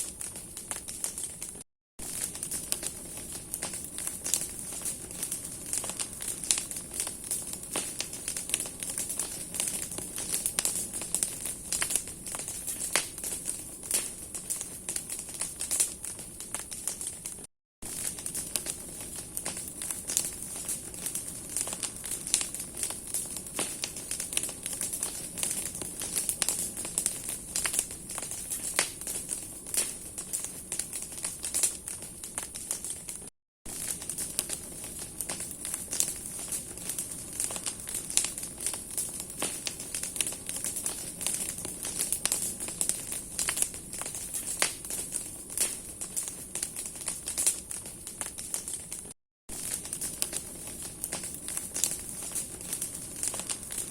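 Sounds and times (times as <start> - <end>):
bonfire crackling and popping: 0.0 - 53.9.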